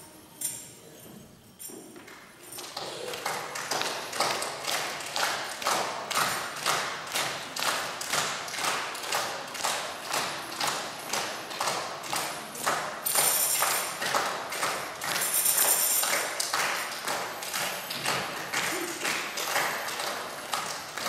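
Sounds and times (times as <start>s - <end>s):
tambourine beat: 0.0s - 21.0s.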